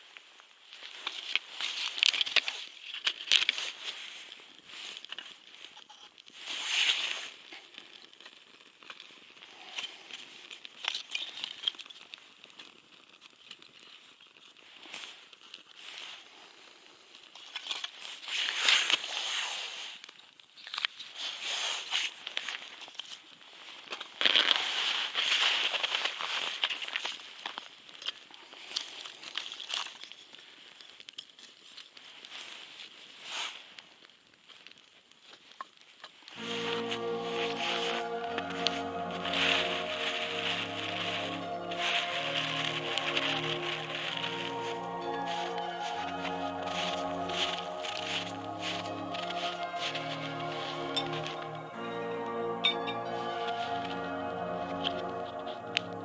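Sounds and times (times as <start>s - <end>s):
dry kindling crackling and breaking: 0.6s - 52.0s.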